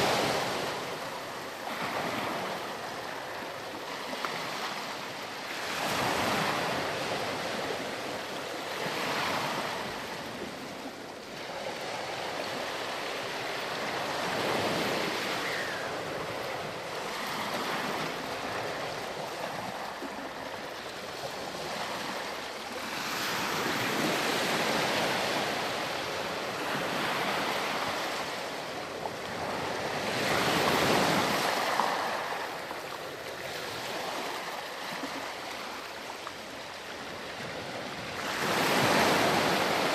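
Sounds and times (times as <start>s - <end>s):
ocean surf washing onto sand: 0.0s - 39.9s.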